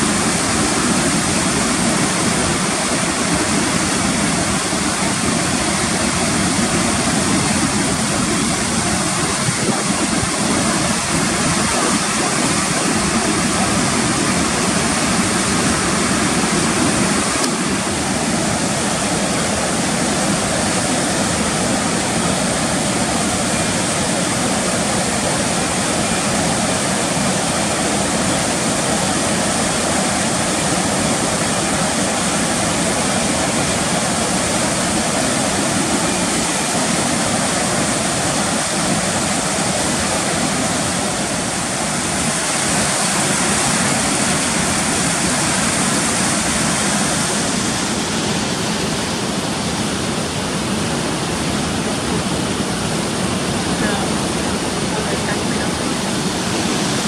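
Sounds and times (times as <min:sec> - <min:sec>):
water churning in pool: 0:00.0 - 0:57.0
water rushing into lock chamber: 0:00.0 - 0:57.0.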